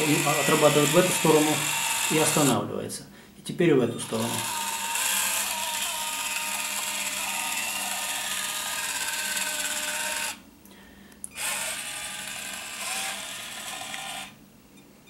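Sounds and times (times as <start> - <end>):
small motor whirring: 0.0 - 2.6, 3.9 - 10.4, 11.3 - 14.4.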